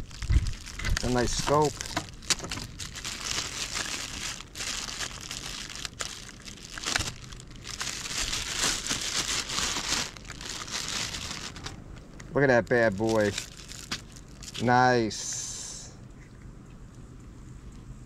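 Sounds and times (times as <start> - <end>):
plastic bag and foam crinkling: 0.0 - 14.9.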